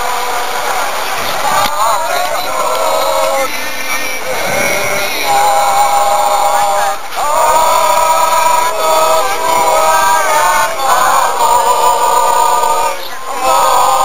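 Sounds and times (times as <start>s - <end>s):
crowd singing: 0.0s - 14.0s.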